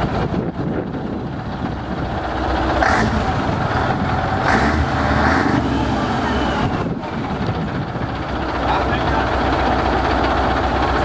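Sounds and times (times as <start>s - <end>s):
diesel truck idling: 0.0s - 11.0s.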